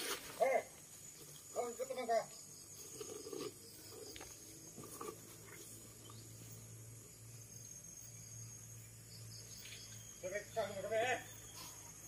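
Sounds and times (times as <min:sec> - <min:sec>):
high-pitched insect trilling: 0:00.1 - 0:12.0.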